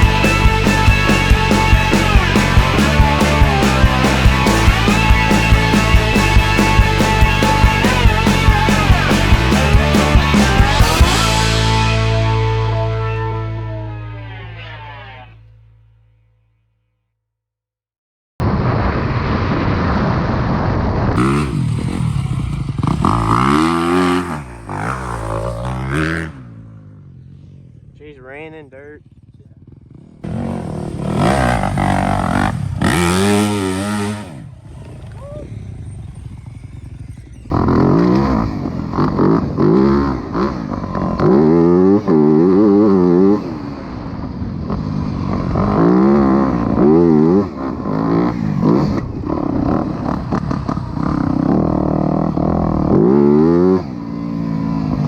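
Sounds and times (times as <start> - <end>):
dirt bike engine revving: 0.0 - 15.7, 21.2 - 55.0.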